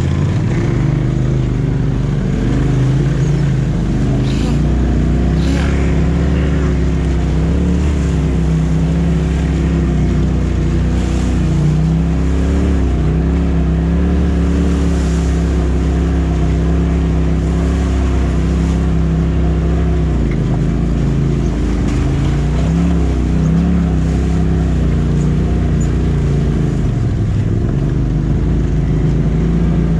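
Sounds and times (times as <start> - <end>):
off-road vehicle engine running: 0.0 - 29.9.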